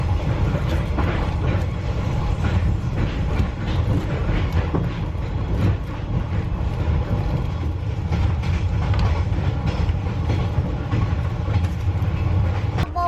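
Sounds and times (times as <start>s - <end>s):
train clicks and knocks: 0.0s - 13.0s
train rumbling: 0.0s - 13.0s.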